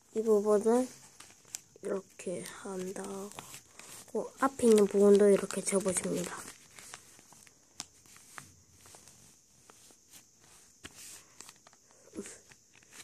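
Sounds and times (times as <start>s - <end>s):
paper rustling and creasing: 0.2s - 13.0s.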